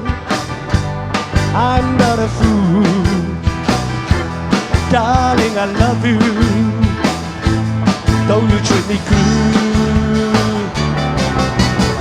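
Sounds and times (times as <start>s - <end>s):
live rock and roll band: 0.0s - 12.0s.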